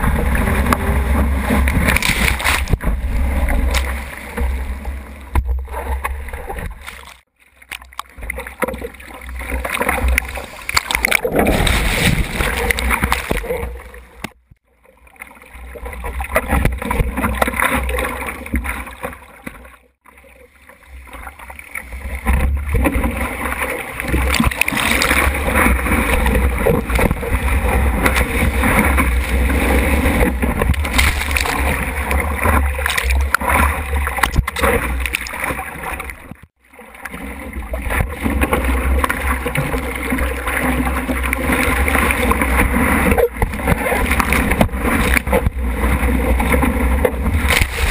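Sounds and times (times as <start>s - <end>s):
surf water rushing and splashing: 0.0s - 14.4s, 15.1s - 47.9s.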